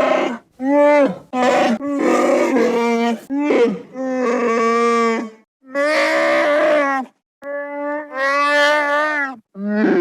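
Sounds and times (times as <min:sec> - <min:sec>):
creature moaning calls: 0:00.0 - 0:10.0.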